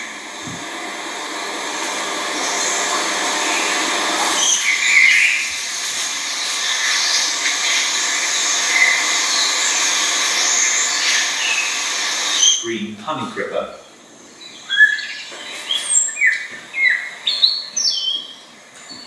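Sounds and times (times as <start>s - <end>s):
steady hiss: 0.0s - 16.8s
small birds chirping: 0.0s - 19.0s.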